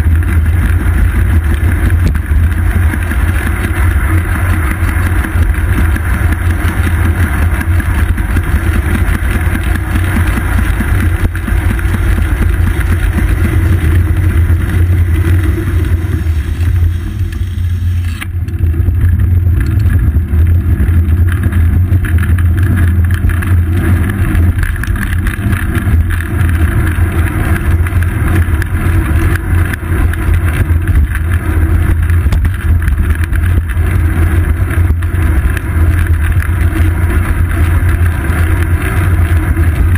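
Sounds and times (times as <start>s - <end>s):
road rumble: 0.0s - 39.9s
wind buffeting: 0.0s - 39.9s.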